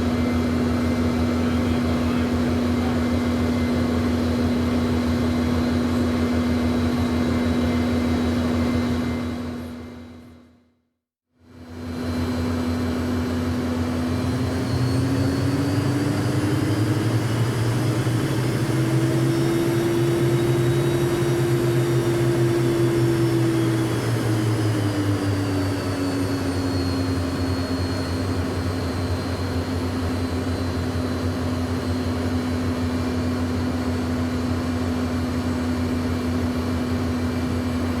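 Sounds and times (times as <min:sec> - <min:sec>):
jet engines running: 0:00.0 - 0:10.4, 0:11.6 - 0:38.0.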